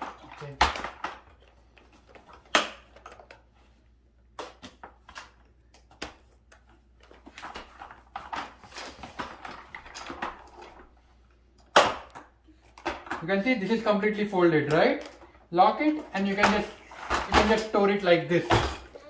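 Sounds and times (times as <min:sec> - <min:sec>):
plastic clattering and rustling: 0:00.0 - 0:13.4, 0:14.6 - 0:19.0.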